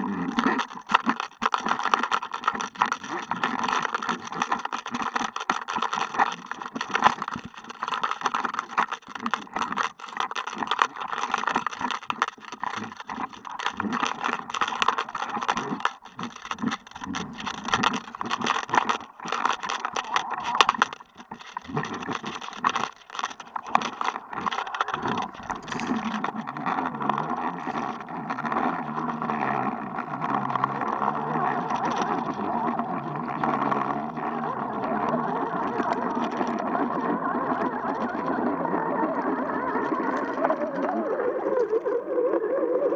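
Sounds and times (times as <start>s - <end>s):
camera rattling in its housing: 0.0s - 34.3s, 35.6s - 36.6s.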